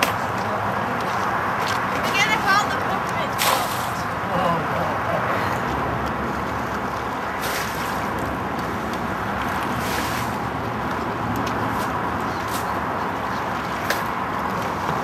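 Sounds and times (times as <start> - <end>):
water sloshing from buckets: 1.3 - 15.0.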